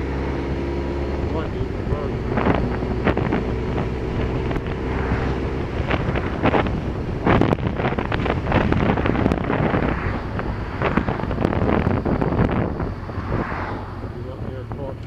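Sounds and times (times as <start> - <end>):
road and engine rumble: 0.0 - 15.0
wind buffeting microphone: 0.0 - 15.0.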